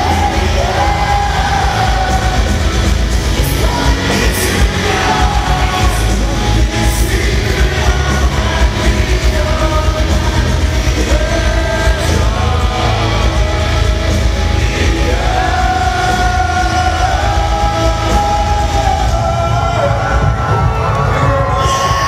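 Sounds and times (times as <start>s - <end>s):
metalcore band playing live: 0.0s - 22.0s.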